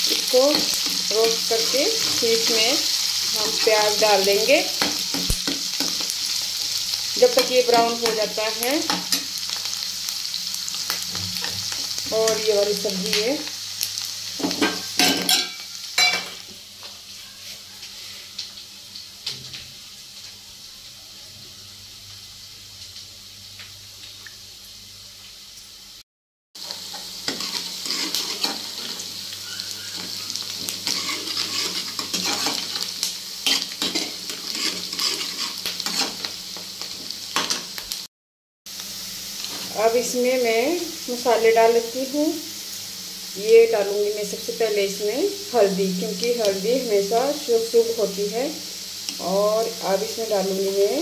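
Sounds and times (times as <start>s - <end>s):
food sizzling in hot oil: 0.0s - 26.0s, 26.6s - 38.1s, 38.7s - 51.0s.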